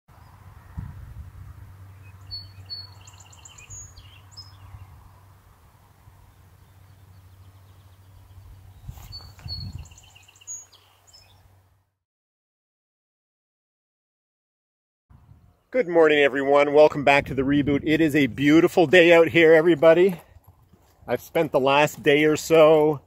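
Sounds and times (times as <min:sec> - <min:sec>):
songbird singing: 0:00.1 - 0:11.9, 0:15.1 - 0:23.0.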